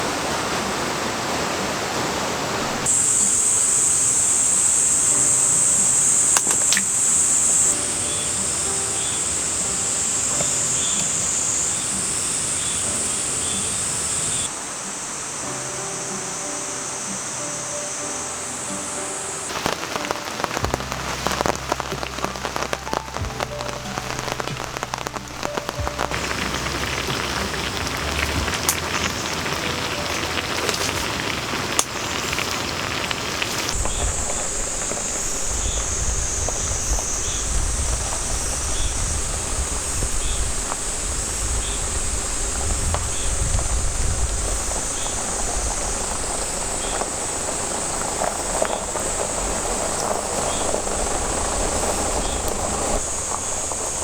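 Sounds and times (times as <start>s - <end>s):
cicadas droning: 0.0s - 54.0s
rain falling: 0.0s - 54.0s.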